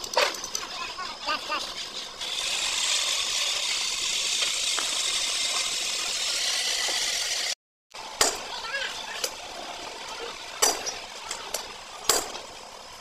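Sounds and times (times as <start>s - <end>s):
high-pitched machine hiss: 0.0s - 13.0s.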